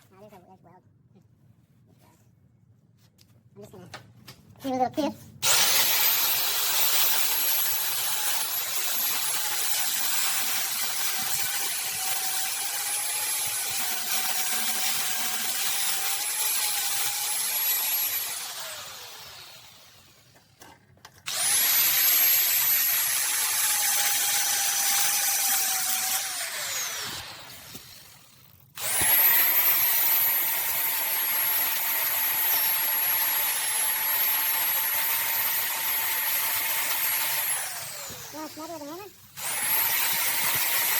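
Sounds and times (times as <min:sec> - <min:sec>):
power tool whining and grinding: 0:05.4 - 0:40.9.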